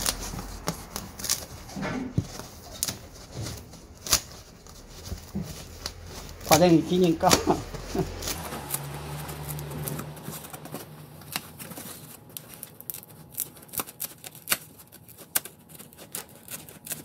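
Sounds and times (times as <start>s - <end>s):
scissors cutting packing foam: 0.0s - 17.0s.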